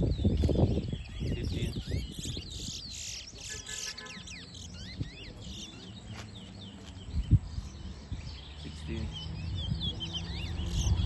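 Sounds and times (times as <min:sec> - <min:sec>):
finches singing: 0:00.0 - 0:11.0.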